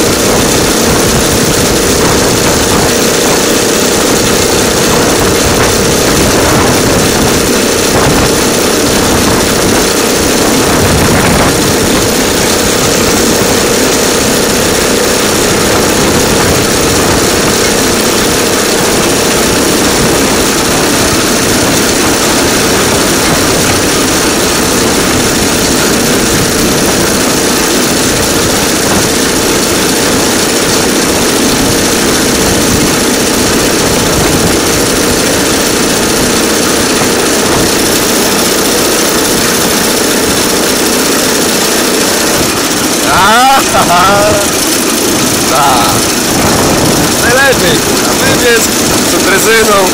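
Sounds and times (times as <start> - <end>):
rail vehicle engine drone: 0.0 - 49.9.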